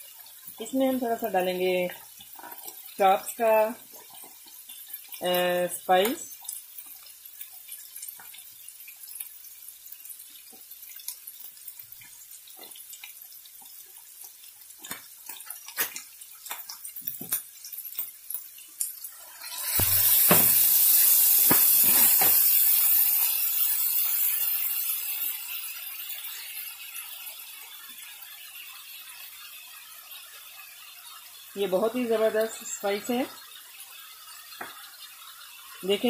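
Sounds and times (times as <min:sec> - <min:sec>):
loud sizzle: 0:00.0 - 0:36.0
meat frying in oil: 0:00.0 - 0:36.0.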